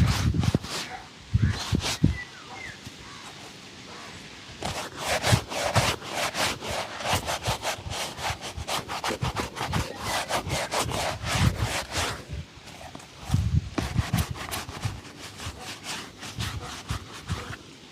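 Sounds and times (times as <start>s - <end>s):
brush rubbing shoe leather: 0.0s - 2.3s, 4.6s - 17.9s.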